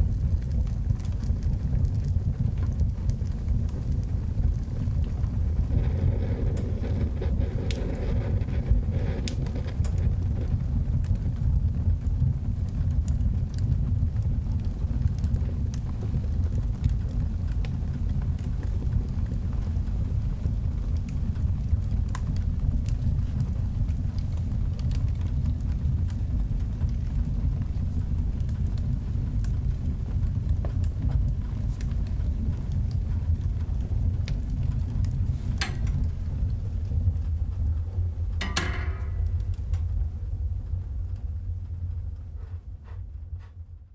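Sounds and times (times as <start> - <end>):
big fire roaring and crackling: 0.0 - 43.6.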